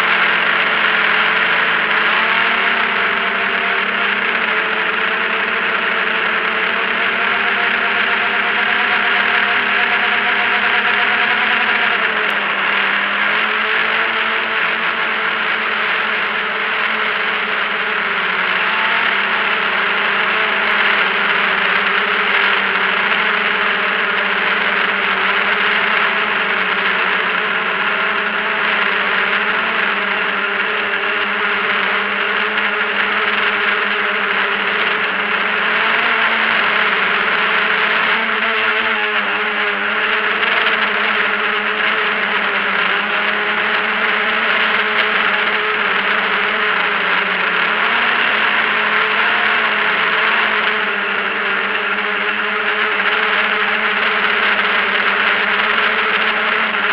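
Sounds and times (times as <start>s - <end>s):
drone propellers buzzing: 0.0s - 56.9s.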